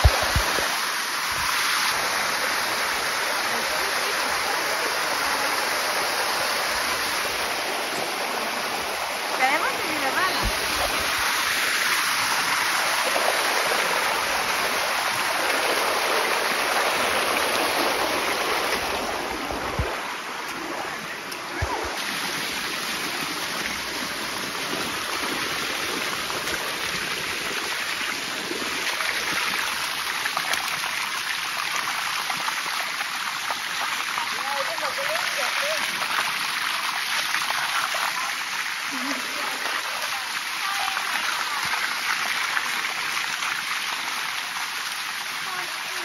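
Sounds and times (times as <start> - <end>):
water rushing over rocks: 0.0 - 46.0.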